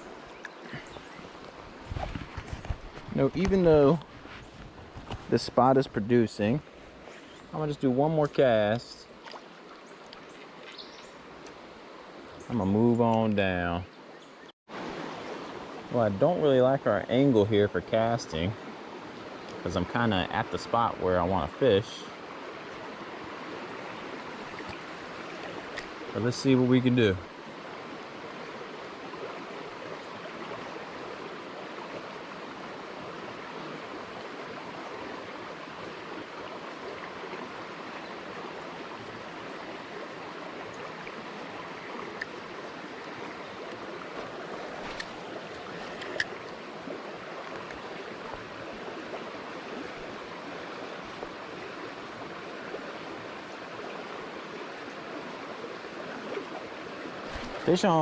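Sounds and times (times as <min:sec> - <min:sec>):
river current running: 0:00.0 - 0:58.0.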